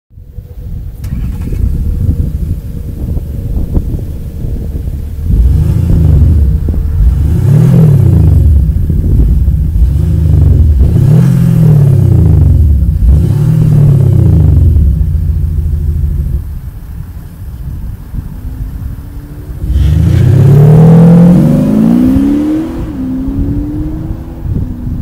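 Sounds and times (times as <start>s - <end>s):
diesel engine revving: 0.9s - 16.6s, 18.2s - 25.0s.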